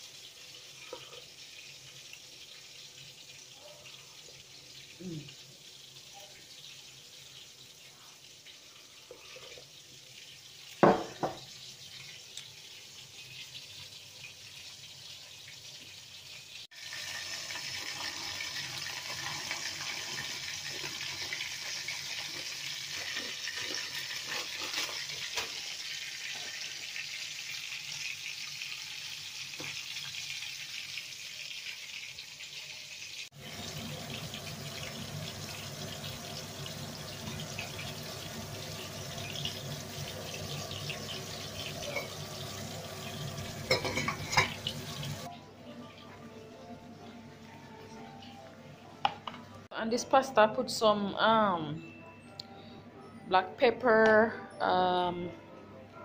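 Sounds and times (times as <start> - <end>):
water boiling in a pot: 0.0 - 45.3.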